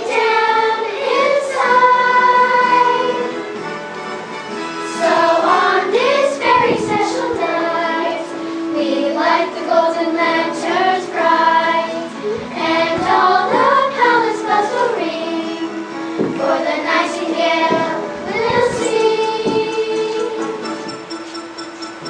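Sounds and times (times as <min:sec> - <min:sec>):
children singing in unison: 0:00.0 - 0:03.5, 0:04.8 - 0:20.8
musical accompaniment: 0:00.0 - 0:22.0.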